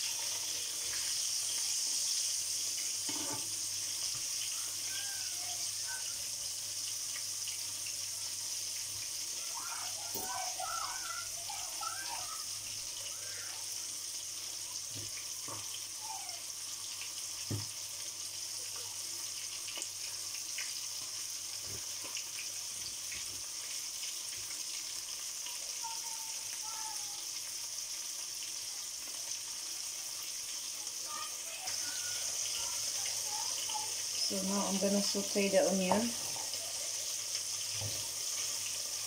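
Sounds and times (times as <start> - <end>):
fish sizzling in oil: 0.0 - 39.0.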